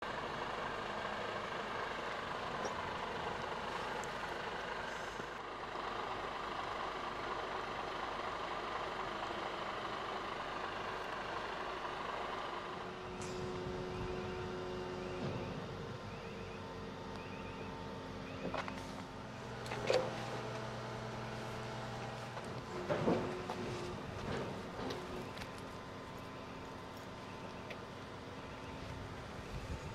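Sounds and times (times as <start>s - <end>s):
truck diesel engine running: 0.0s - 29.9s.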